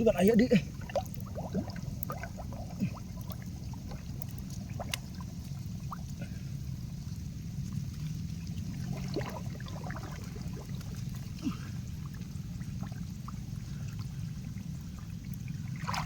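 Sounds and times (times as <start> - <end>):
small splashes of wading: 0.0 - 16.0
water trickling and lapping: 0.0 - 16.0.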